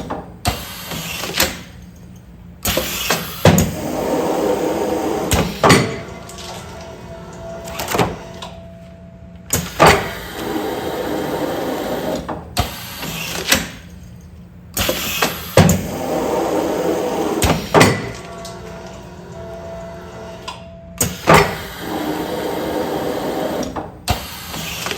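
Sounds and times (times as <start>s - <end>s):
steady low hum: 1.6s - 13.1s, 13.8s - 24.3s.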